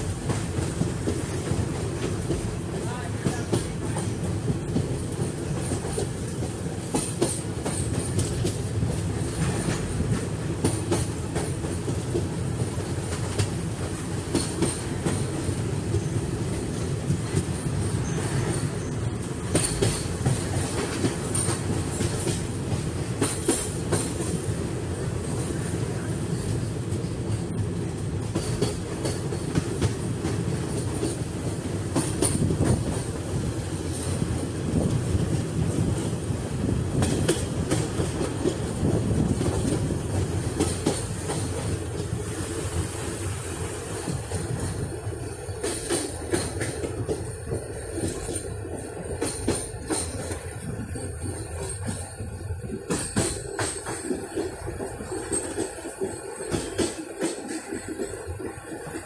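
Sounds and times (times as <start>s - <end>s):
train wheels clickety-clack: 0.0s - 59.0s.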